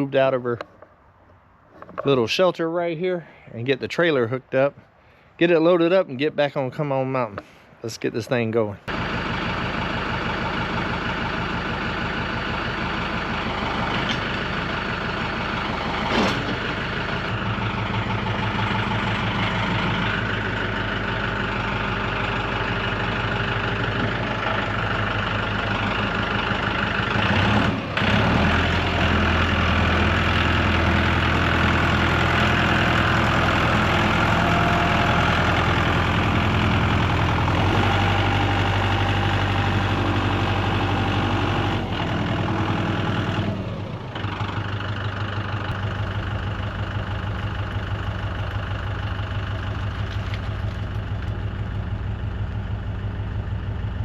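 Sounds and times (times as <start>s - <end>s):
tractor engine idling: 7.1s - 54.0s.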